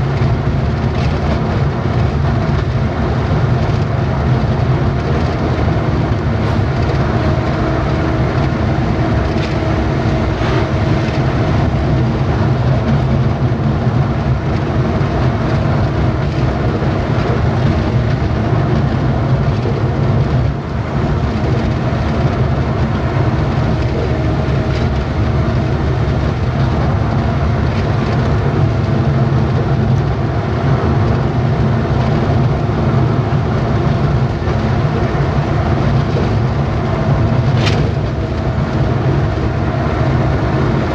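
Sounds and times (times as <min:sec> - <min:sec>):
road rumble: 0:00.0 - 0:40.9
truck engine running: 0:00.0 - 0:40.9.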